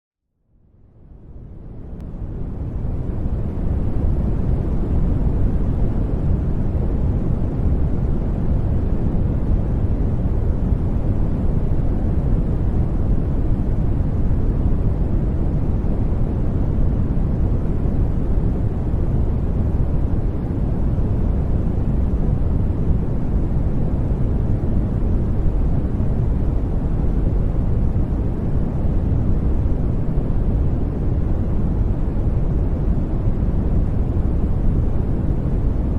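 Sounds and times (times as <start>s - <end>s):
deep rumbling brown noise: 0.6s - 35.9s.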